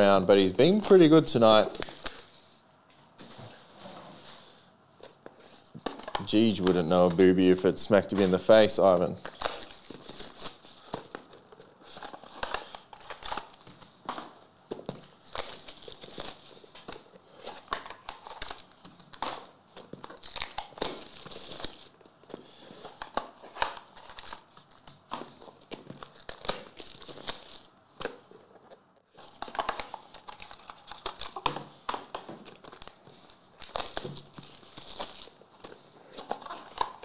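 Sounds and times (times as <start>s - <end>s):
plastic and foil packs crinkling: 0.3s - 2.4s, 5.1s - 28.5s, 29.1s - 37.0s.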